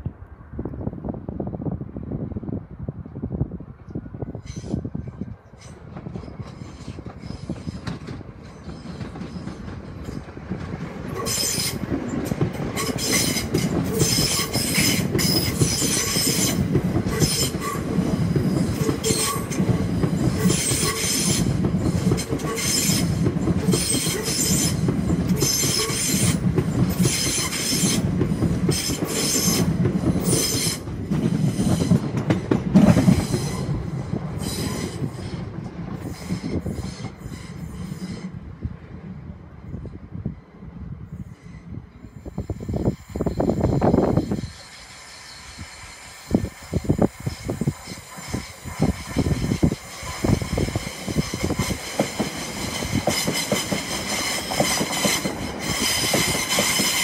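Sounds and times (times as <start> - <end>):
electric train passing: 3.6 - 57.0.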